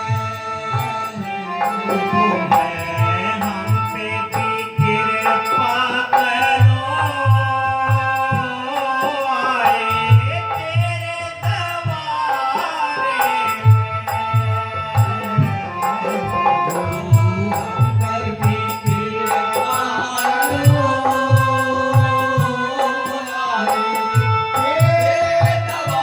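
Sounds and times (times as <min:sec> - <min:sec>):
person singing devotional song: 0:00.0 - 0:26.0.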